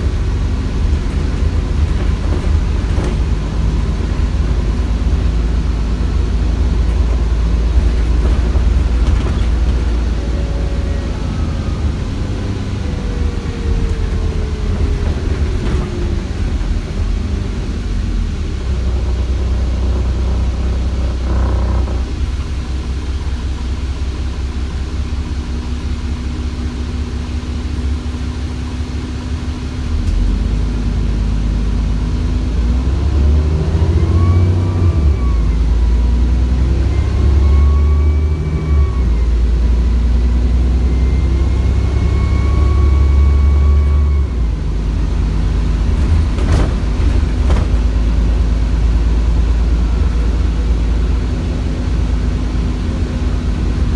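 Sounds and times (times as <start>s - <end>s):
bus diesel engine rumble: 0.0s - 53.9s.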